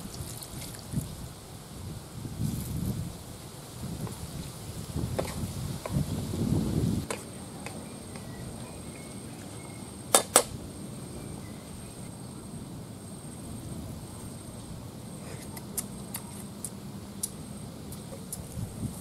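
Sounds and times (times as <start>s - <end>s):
faint high whine: 0.0s - 19.0s
outdoor background noise: 0.0s - 19.0s.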